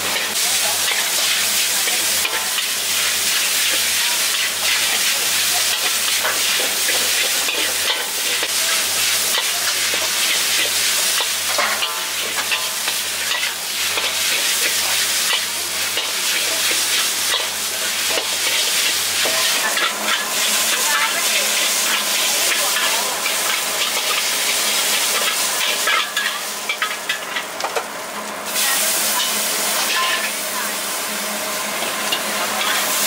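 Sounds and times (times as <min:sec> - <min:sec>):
metal spatula scraping a wok: 0:00.0 - 0:27.5
noodles sizzling in a wok: 0:00.0 - 0:33.0.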